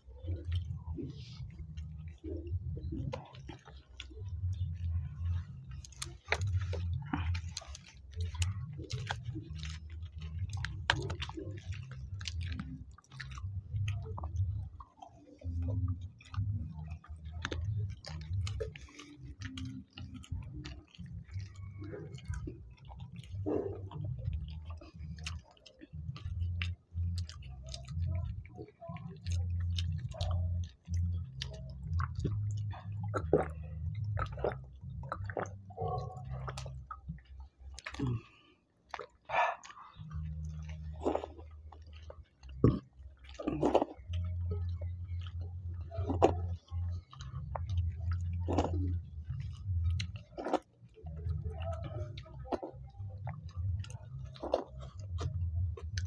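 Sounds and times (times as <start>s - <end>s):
people chewing and lip smacking: 0.0s - 56.0s.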